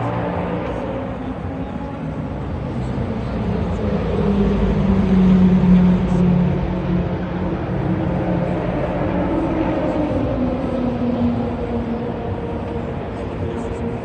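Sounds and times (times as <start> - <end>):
race car engine passing: 0.0 - 14.0.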